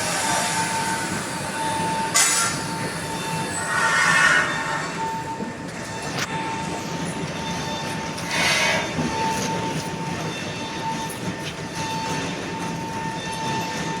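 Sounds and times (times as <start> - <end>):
machinery whining: 0.0 - 14.0.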